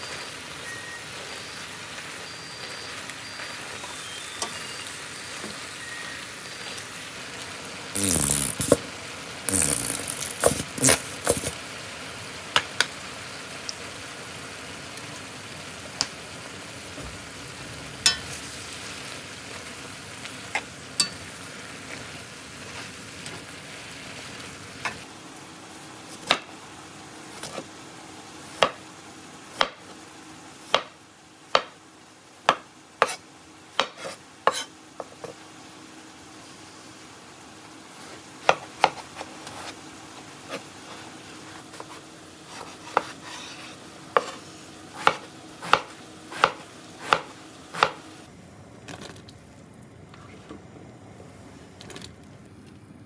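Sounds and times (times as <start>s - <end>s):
frying pan sizzling: 0.0s - 52.9s.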